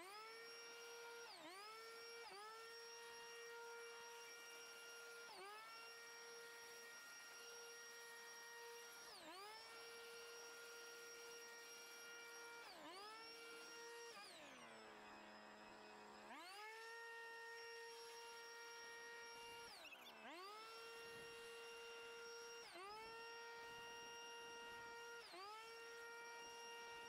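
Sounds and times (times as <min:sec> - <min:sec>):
leaf blower whine: 0:00.0 - 0:27.0.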